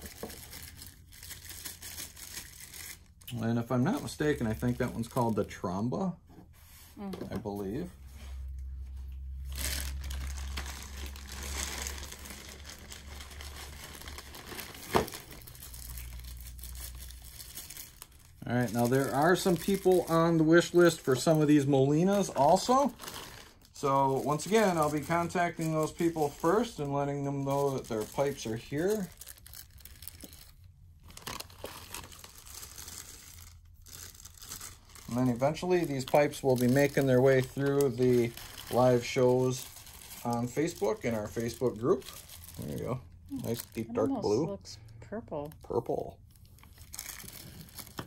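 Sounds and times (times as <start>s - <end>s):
packaging crinkling and rustling: 0.0s - 5.6s, 9.1s - 44.1s, 45.4s - 48.0s.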